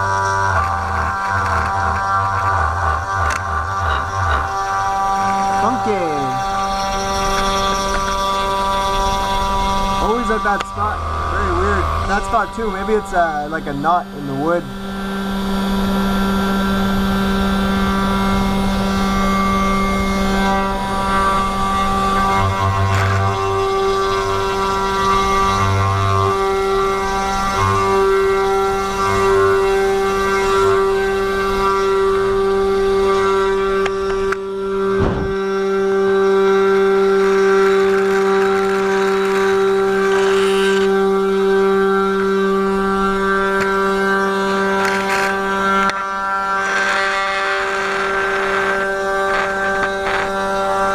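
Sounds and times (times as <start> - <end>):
end mill cutting wood: 0.0 - 50.9
router spindle whine: 0.0 - 50.9.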